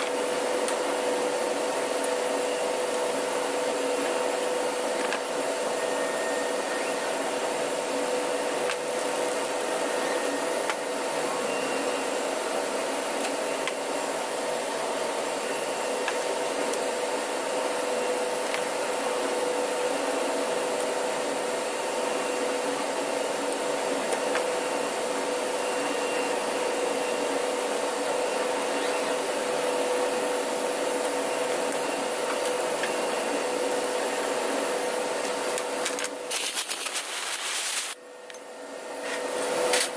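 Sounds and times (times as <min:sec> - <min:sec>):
machinery hum: 0:00.0 - 0:39.9.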